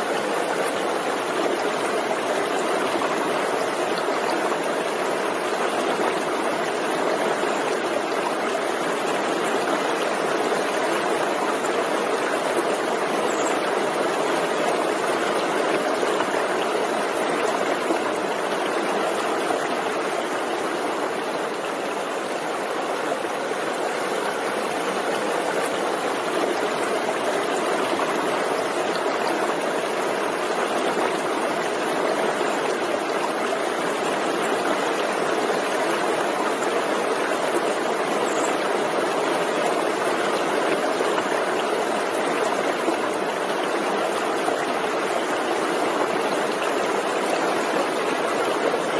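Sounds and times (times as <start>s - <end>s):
stream flowing over rocks: 0.0s - 48.9s.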